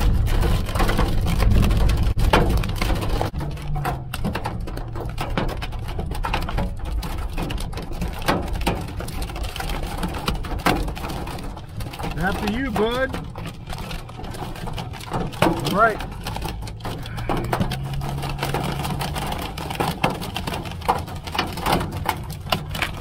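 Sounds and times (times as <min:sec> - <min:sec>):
hail striking a car roof: 0:00.0 - 0:23.0
low vehicle rumble: 0:00.0 - 0:23.0.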